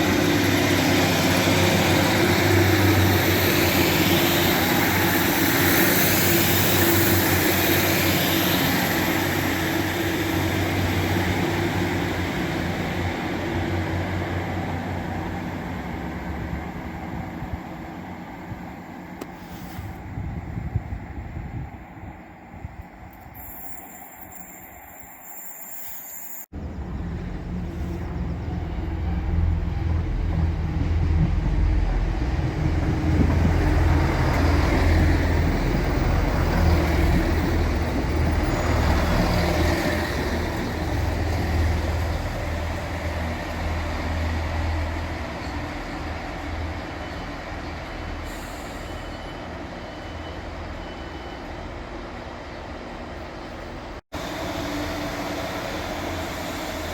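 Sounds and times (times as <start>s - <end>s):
diesel train engine drone: 0.0s - 19.3s, 26.5s - 56.9s.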